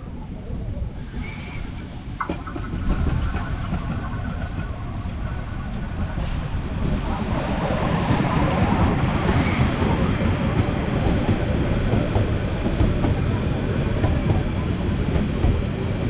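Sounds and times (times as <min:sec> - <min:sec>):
steam train rumbling on rails: 0:00.1 - 0:16.0.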